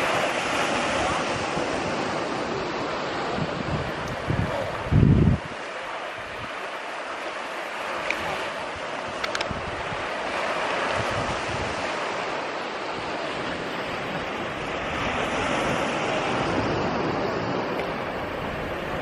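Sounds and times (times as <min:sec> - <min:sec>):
ocean surf washing on shore: 0:00.0 - 0:19.0
wind buffeting microphone: 0:00.0 - 0:19.0.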